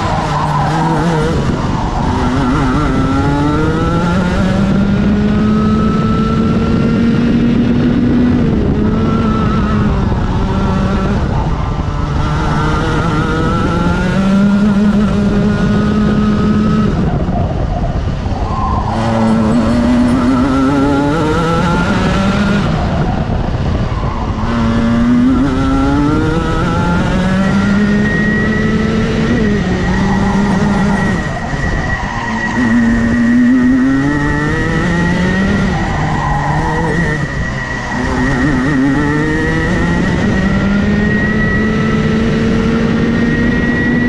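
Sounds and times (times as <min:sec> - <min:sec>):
kart engine revving: 0:00.0 - 0:44.0
rushing wind: 0:00.0 - 0:44.0.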